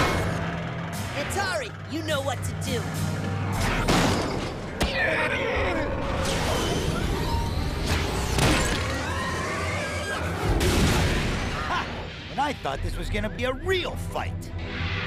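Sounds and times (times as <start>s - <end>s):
dramatic action music: 0.0s - 15.0s.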